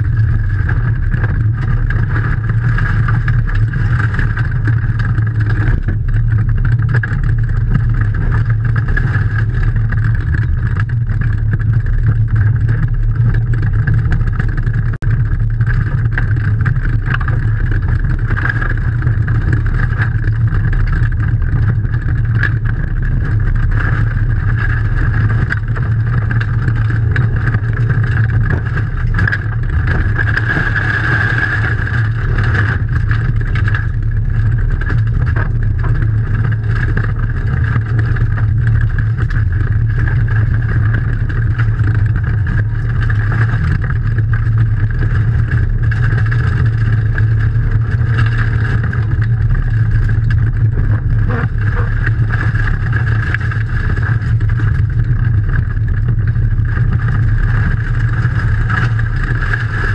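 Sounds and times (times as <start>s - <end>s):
rally car engine under load: 0.0s - 59.9s
tyres rumbling on gravel: 0.0s - 59.9s.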